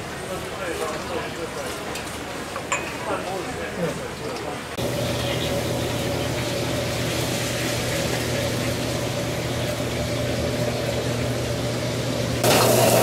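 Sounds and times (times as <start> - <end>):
kitchen burners roaring: 0.0 - 13.0
ventilation low hum: 0.0 - 13.0.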